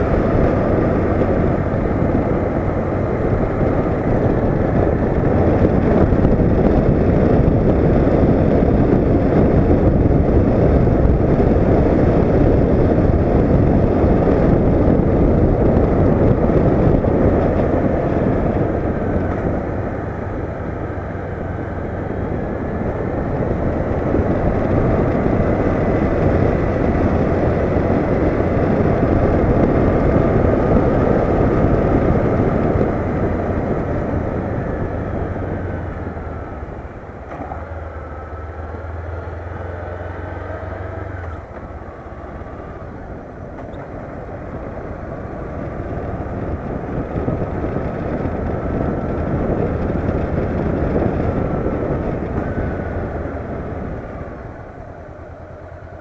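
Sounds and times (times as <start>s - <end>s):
motorcycle engine: 0.0s - 56.0s
wind rush on microphone: 0.0s - 56.0s.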